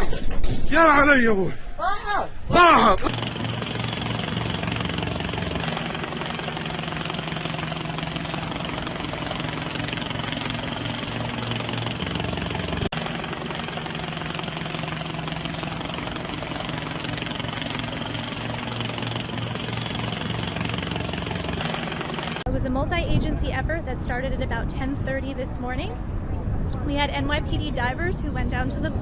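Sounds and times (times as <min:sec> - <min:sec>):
engine drone: 0:02.4 - 0:29.0.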